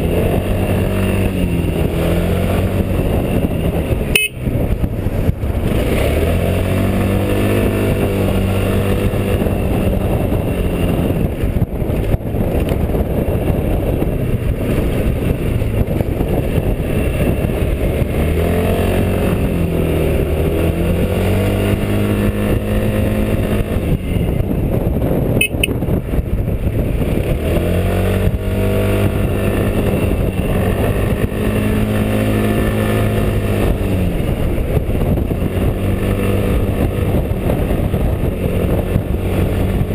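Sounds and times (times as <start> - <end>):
scooter engine pulling uphill: 0.0 - 39.9
wind rushing on microphone: 0.0 - 39.9.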